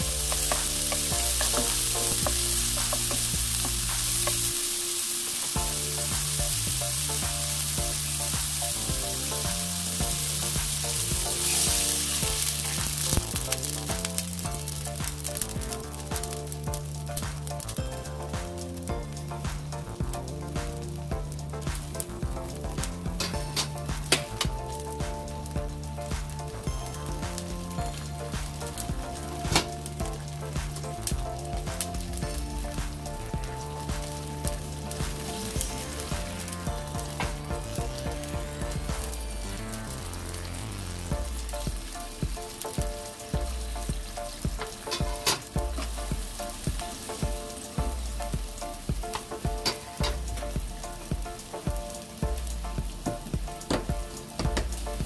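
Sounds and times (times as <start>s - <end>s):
background music: 0.0s - 55.0s
meat sizzling in a wok: 0.0s - 55.0s.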